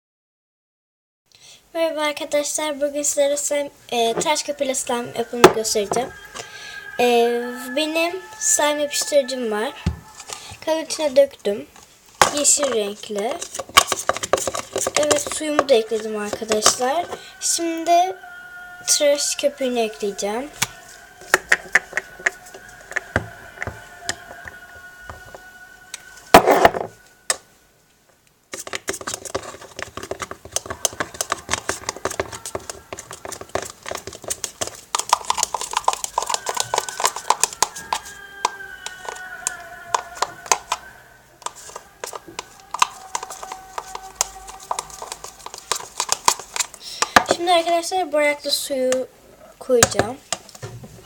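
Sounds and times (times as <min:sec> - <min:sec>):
utensil stirring slime: 0:03.9 - 0:27.4, 0:28.5 - 0:47.8.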